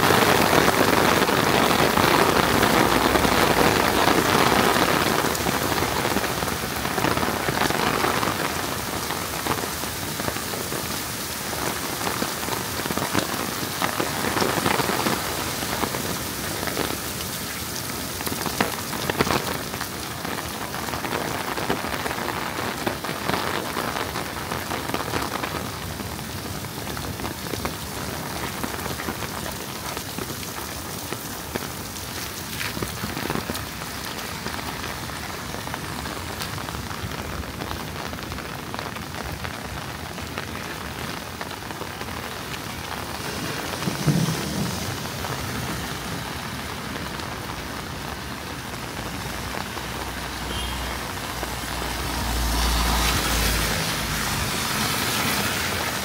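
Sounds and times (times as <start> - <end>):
heavy rain spattering: 0.0 - 56.0.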